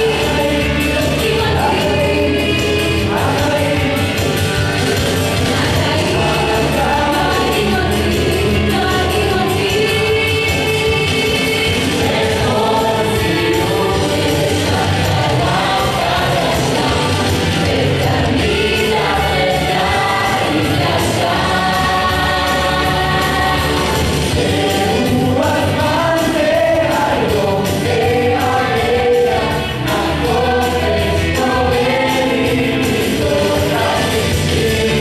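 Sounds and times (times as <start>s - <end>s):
amplified music with steady beat: 0.0s - 35.0s
group singing into microphones: 0.0s - 35.0s.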